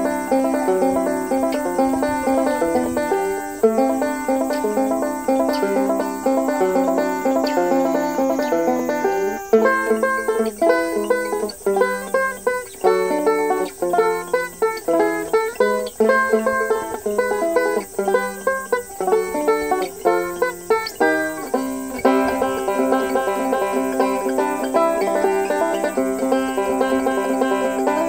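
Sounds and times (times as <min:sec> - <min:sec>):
cicada drone: 0:00.0 - 0:28.0
finger-picked banjo: 0:00.0 - 0:28.0.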